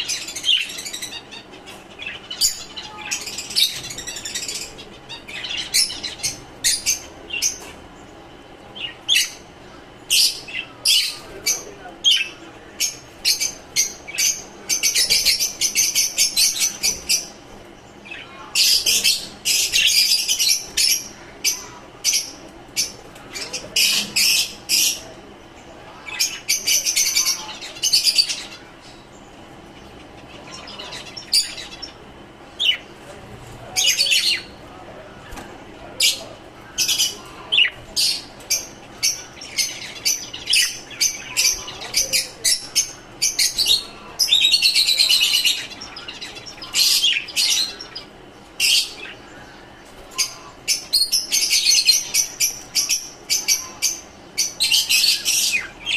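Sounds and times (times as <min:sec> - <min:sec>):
birds chattering rapidly: 0:00.0 - 0:55.9
birds chirping: 0:00.0 - 0:55.9.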